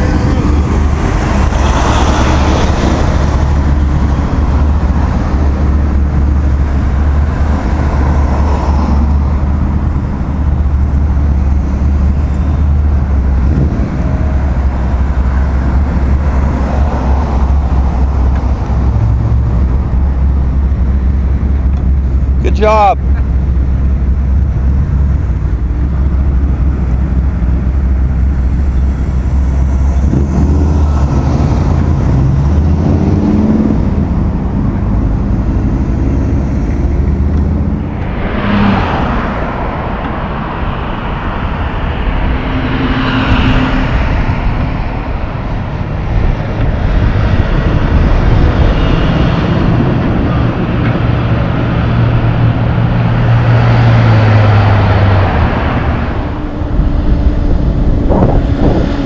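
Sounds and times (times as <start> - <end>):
cars passing: 0.0 - 59.0
deep vehicle engine rumble: 0.0 - 59.0
truck engine droning: 0.0 - 59.0.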